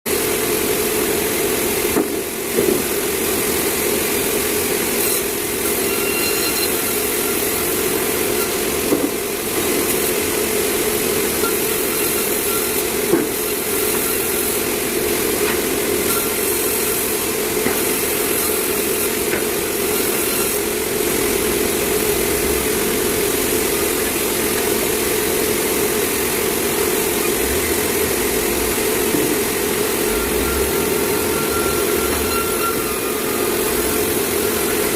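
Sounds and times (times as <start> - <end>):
sawmill machinery running: 0.1 - 34.9.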